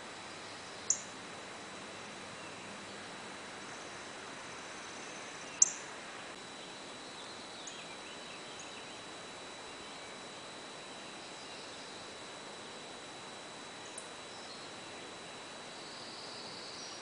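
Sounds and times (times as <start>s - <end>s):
faint bird song: 0.0s - 1.2s, 1.9s - 17.0s
songbird chip notes: 0.2s - 1.2s, 2.2s - 17.0s.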